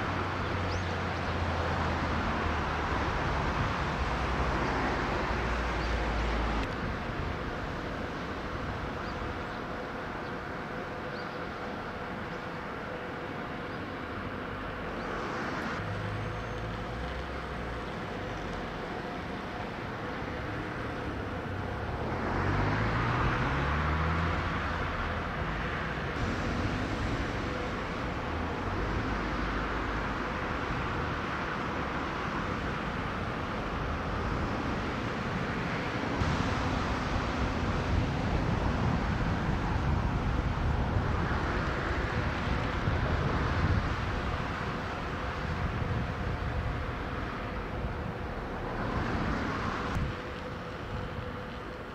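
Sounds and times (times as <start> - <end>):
traffic and machinery noise: 0.0 - 51.9.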